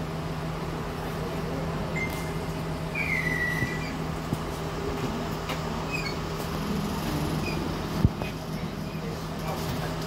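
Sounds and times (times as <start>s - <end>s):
train engine humming: 0.0s - 10.0s.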